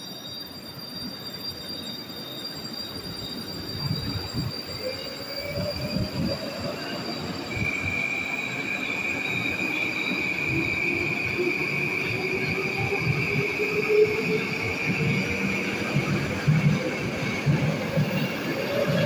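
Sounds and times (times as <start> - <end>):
train wheels rumbling on rails: 2.6 - 19.0.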